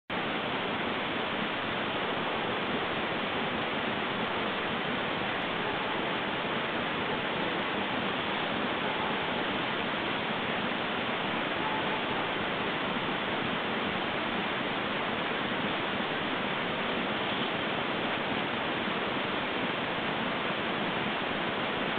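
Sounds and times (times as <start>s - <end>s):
microphone self-noise hiss: 0.1s - 21.9s.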